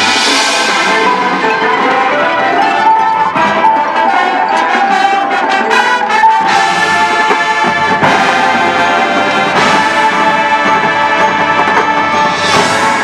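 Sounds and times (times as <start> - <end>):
marching band brass chords: 0.0 - 13.0.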